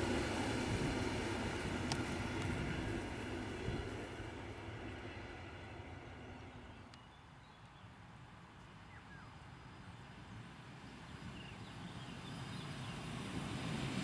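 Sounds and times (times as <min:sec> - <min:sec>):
train rolling along track: 0:00.0 - 0:14.0.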